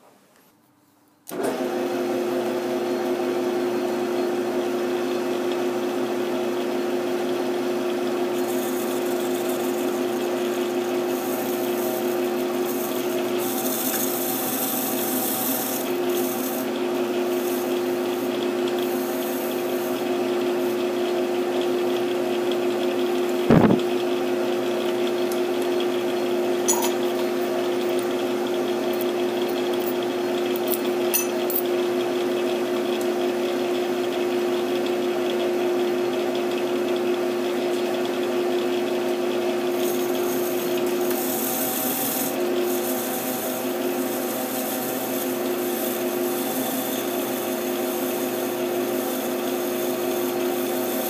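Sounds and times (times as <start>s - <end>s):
metal lathe humming: 5.0s - 51.0s.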